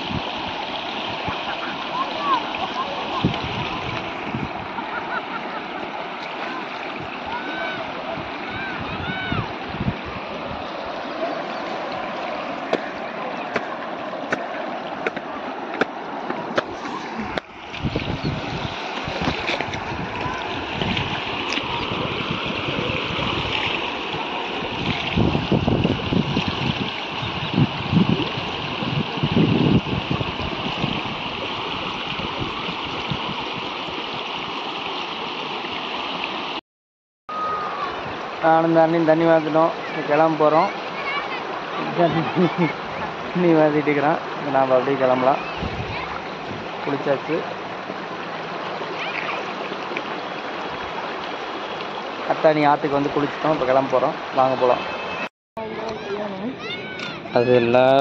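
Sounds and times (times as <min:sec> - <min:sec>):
water rushing over rocks: 0:00.0 - 0:36.6, 0:37.3 - 0:58.0.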